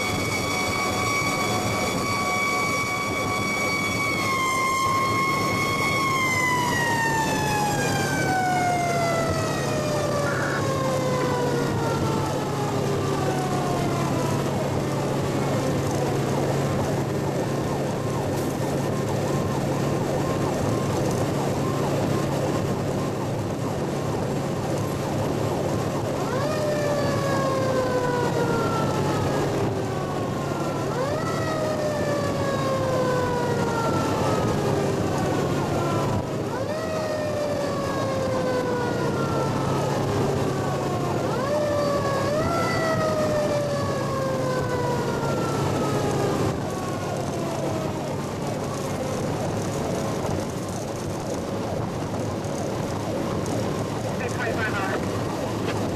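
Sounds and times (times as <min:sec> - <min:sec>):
engine and road noise drone: 0:00.0 - 0:55.9.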